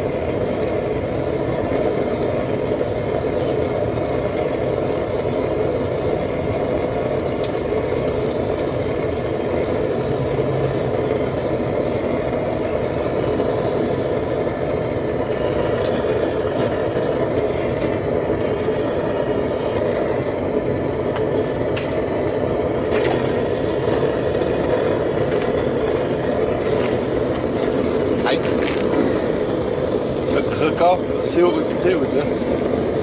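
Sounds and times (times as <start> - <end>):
furnace burner rushing: 0.0 - 33.0.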